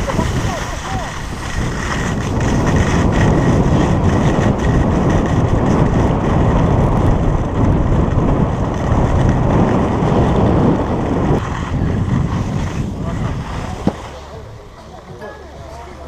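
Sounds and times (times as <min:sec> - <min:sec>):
wind buffeting microphone: 0:00.0 - 0:15.2
skis scraping over snow: 0:00.0 - 0:16.0.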